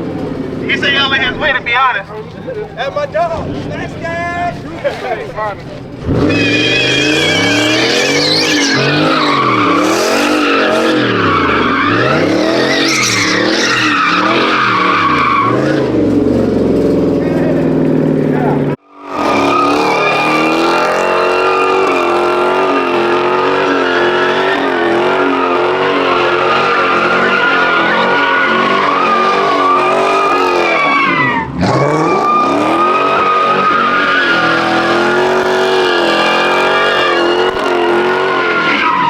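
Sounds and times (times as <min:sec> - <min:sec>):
car engine revving high: 0:00.0 - 0:39.0
tyres spinning and skidding: 0:00.0 - 0:39.0.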